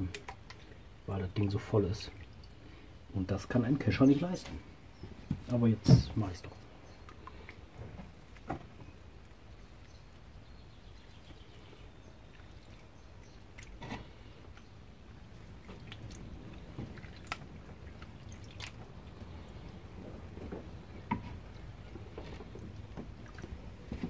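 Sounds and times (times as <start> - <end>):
faint wet sounds: 0.0 - 24.0.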